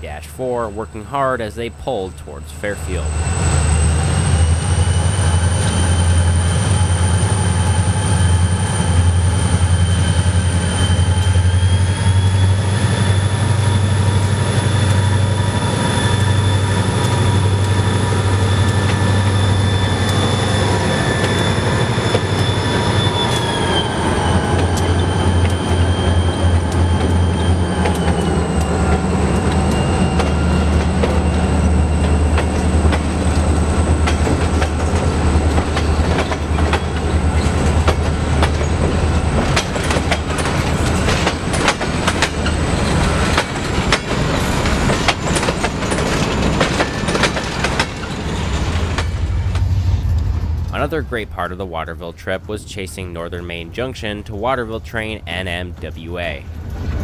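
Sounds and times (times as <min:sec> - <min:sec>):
diesel locomotive engine rumble: 0:00.0 - 0:57.0
locomotive high whine: 0:00.0 - 0:57.0
boxcars rolling past: 0:02.8 - 0:53.9, 0:54.7 - 0:57.0.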